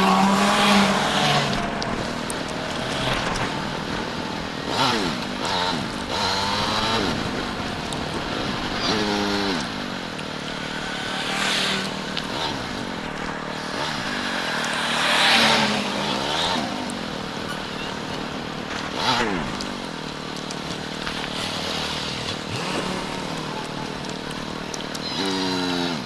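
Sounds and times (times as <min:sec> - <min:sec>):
motorcycle engine revving: 0:00.0 - 0:26.0
road and wind noise: 0:00.0 - 0:26.0.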